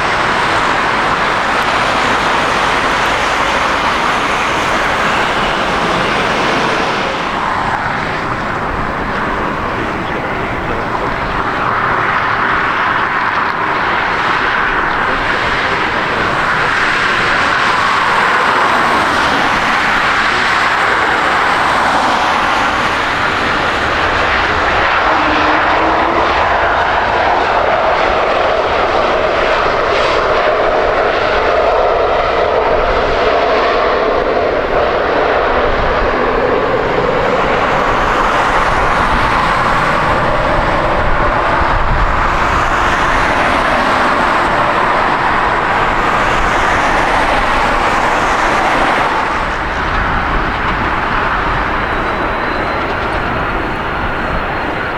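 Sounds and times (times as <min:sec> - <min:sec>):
jet engines roaring: 0:00.0 - 0:54.9.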